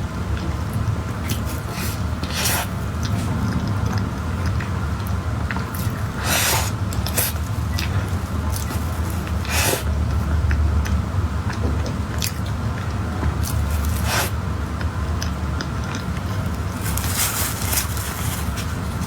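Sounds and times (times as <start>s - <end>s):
steady low hum: 0.0s - 19.0s
biting and chewing: 0.1s - 19.0s.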